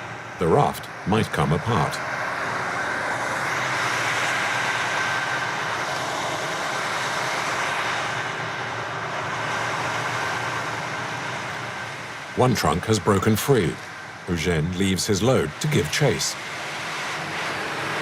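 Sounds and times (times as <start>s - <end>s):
rushing noise: 0.0s - 18.0s
tugboat engine drone: 0.0s - 18.0s.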